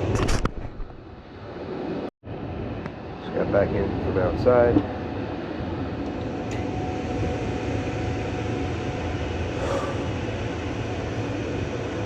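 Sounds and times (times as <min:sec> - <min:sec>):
furnace humming with rushing air: 0:00.0 - 0:12.0.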